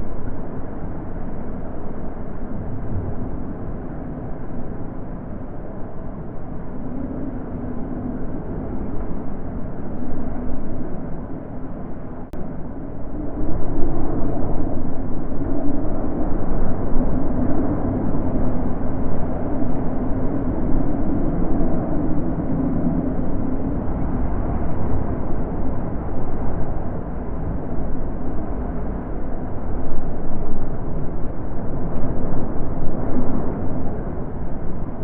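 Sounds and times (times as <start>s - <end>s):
wind blowing in gusts: 0.0s - 35.0s.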